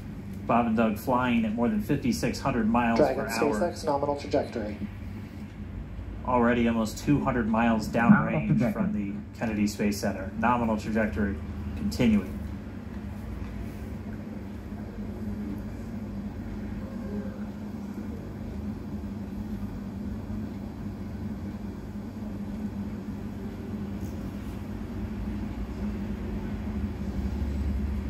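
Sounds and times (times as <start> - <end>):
low rumble with hum: 0.0 - 28.0.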